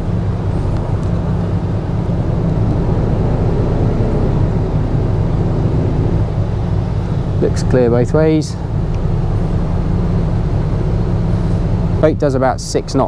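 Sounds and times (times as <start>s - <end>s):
wind buffeting microphone: 0.0s - 11.1s
boat engines running: 0.0s - 13.0s.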